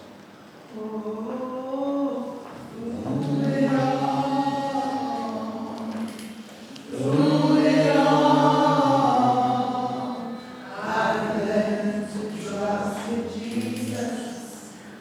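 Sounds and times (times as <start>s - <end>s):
slow worship singing: 0.7s - 15.0s.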